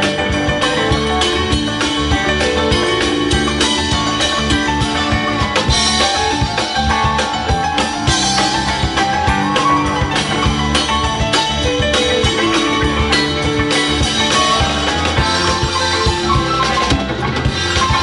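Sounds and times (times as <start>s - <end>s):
drum kit beat: 0.0s - 18.0s
electric guitars: 0.0s - 18.0s
keyboard: 0.0s - 18.0s.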